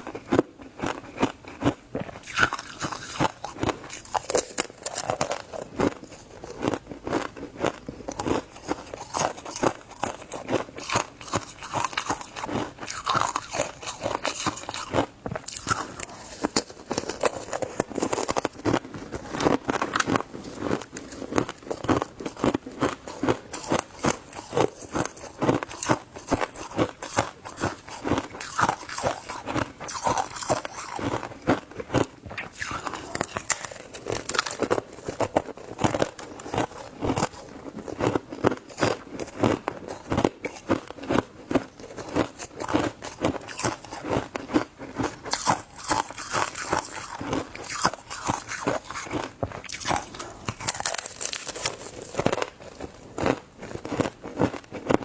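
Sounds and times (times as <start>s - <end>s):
crunching and chewing ice: 0.0s - 55.0s.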